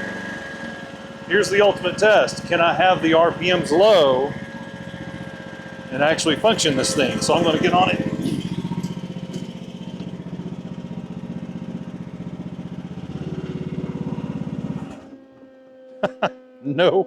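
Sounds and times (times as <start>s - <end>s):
excavator engine running: 0.0s - 17.0s
hydraulics working: 0.0s - 17.0s.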